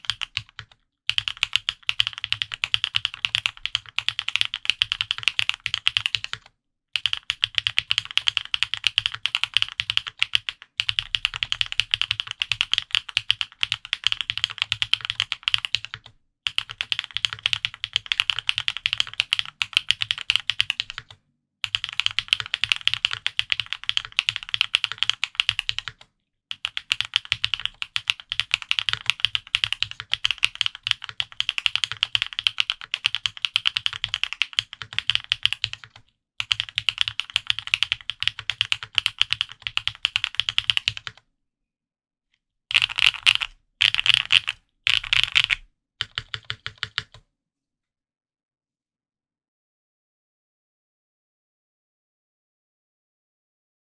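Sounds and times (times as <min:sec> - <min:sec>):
mechanical keyboard typing: 0:00.0 - 0:41.2, 0:42.7 - 0:47.2.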